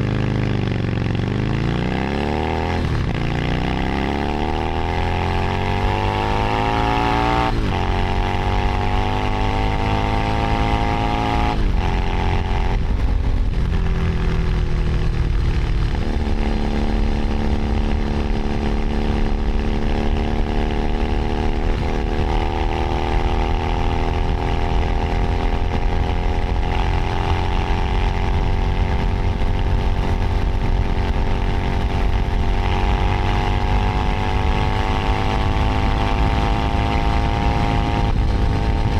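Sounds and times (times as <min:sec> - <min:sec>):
motorcycle engine accelerating: 0:00.0 - 0:38.9
wind and road noise: 0:00.0 - 0:38.9.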